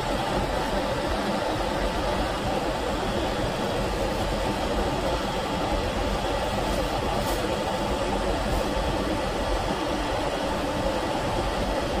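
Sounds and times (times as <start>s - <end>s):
heating torch burning: 0.0s - 12.0s.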